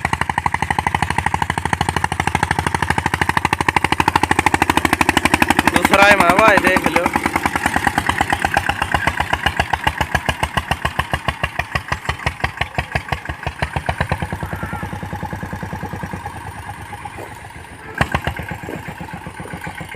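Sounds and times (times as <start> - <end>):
tractor diesel engine chugging: 0.0 - 19.9.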